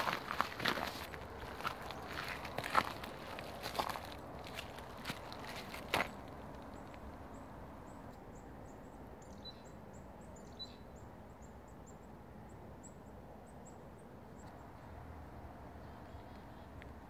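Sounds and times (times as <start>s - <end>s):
small birds calling: 0.0s - 14.8s.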